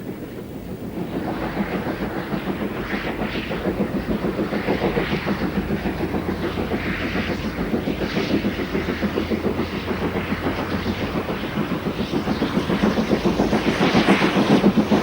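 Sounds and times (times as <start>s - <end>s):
steam locomotive running: 0.0s - 15.0s.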